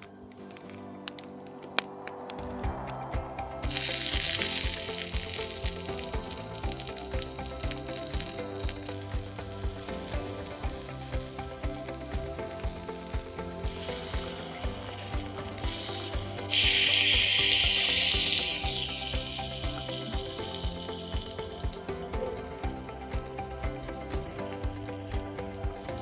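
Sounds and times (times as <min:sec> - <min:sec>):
food sizzling in hot oil: 0:03.6 - 0:26.0
oil popping: 0:03.6 - 0:26.0.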